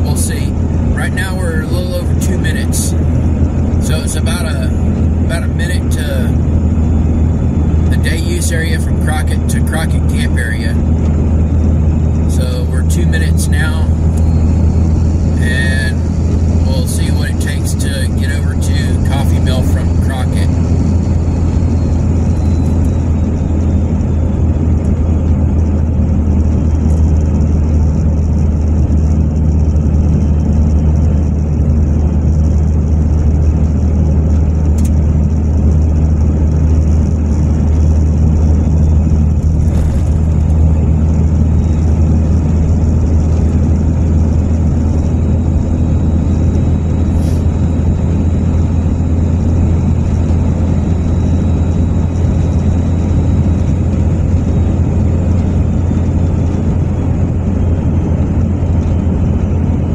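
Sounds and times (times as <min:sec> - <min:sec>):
car engine and tyre drone: 0:00.0 - 0:59.9.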